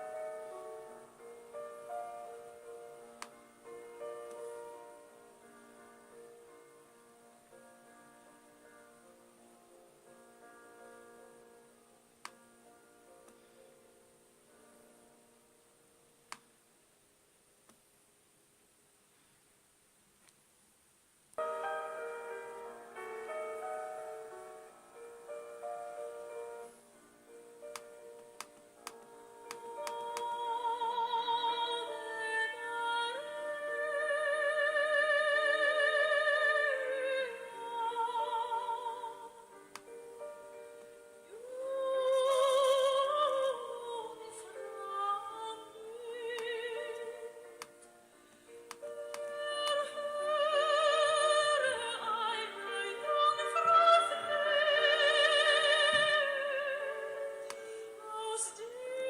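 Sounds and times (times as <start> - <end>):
slow music with vibrato notes: 0.0 - 16.7, 21.3 - 59.0.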